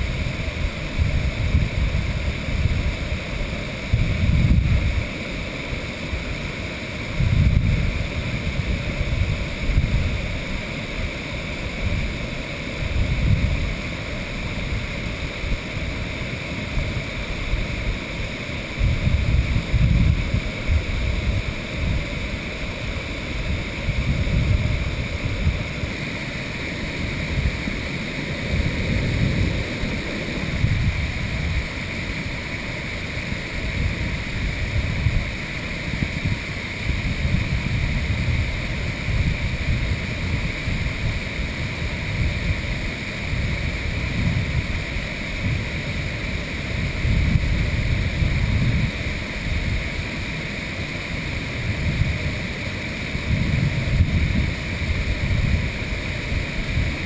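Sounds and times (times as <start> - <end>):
wind buffeting microphone: 0.0 - 5.2, 7.0 - 50.0, 51.4 - 57.0
waterfall rushing: 0.0 - 57.0.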